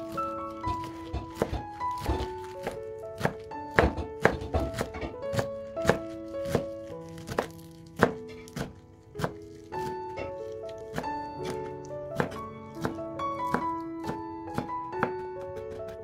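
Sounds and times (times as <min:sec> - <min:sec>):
background music with simple melody: 0:00.0 - 0:16.0
knife chopping on wooden board: 0:00.0 - 0:16.0.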